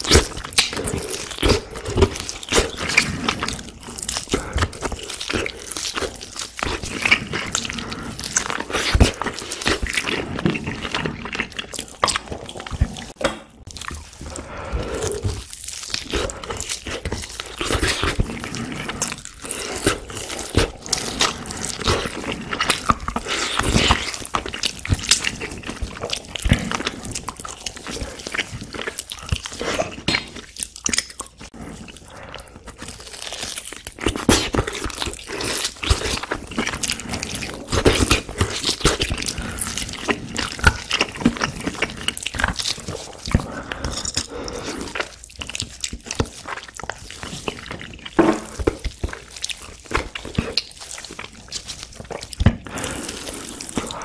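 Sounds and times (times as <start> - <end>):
chewing and biting meat: 0.0 - 54.0.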